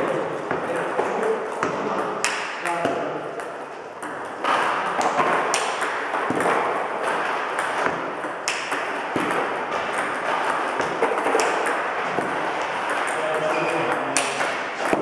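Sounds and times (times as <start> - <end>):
table tennis balls clicking: 0.0 - 15.0.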